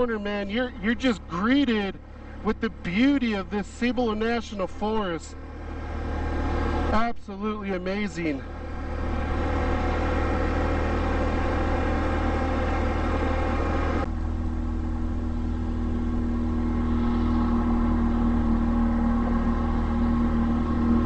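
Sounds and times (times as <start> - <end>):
atv engine running: 0.0 - 21.0
steady drone with held tone: 0.0 - 21.0.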